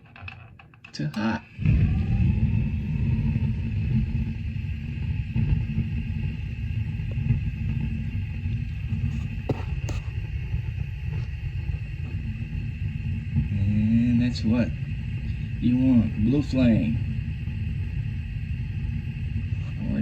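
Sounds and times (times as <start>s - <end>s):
gas burner rumbling: 0.0s - 20.0s.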